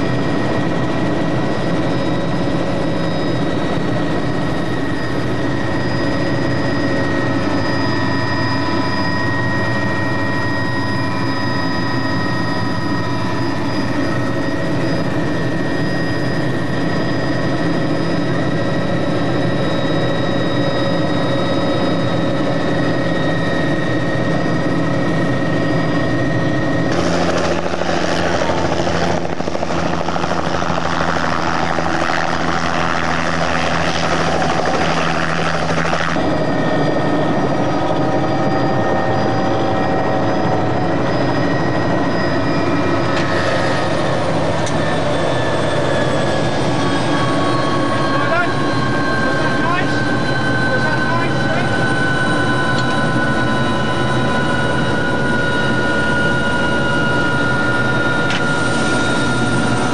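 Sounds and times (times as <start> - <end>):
helicopter hovering to land: 0.0 - 59.9
helicopter rotor and engine drone: 0.0 - 59.9
high turbine whine: 0.0 - 59.9.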